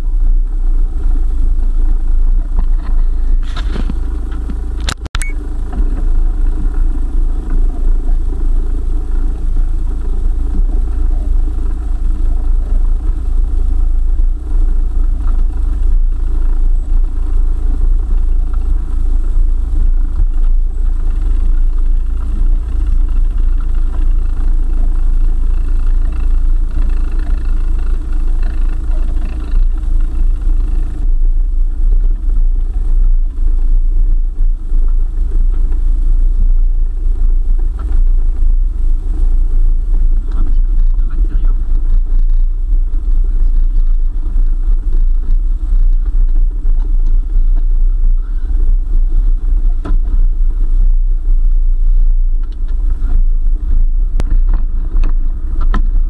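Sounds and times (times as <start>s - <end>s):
off-road vehicle rumbling: 0.0s - 56.0s.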